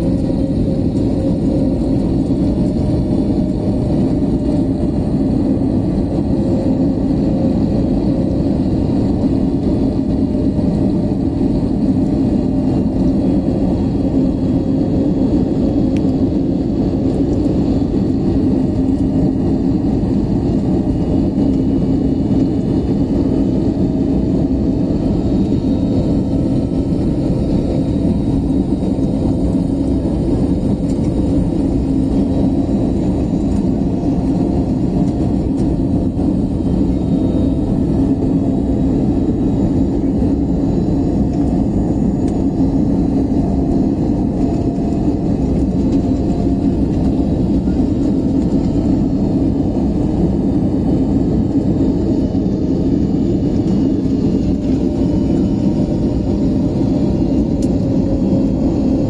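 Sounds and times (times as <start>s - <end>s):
airliner cabin engine and air noise: 0.0s - 59.0s
constant low hum: 0.0s - 59.0s.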